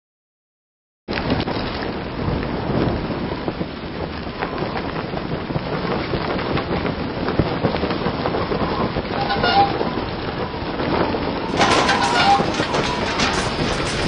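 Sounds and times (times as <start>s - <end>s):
rain and wind rushing: 1.1s - 14.0s.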